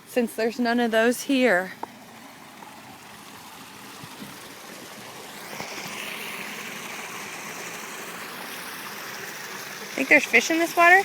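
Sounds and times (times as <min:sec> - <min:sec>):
water flowing: 0:00.0 - 0:11.0.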